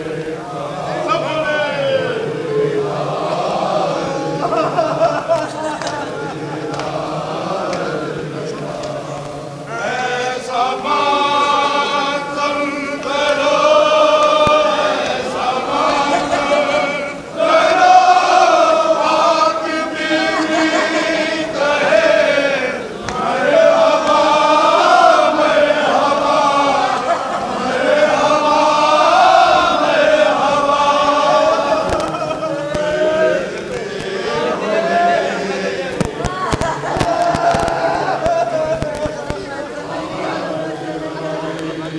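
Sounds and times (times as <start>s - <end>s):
men chanting a lament: 0.0s - 41.9s.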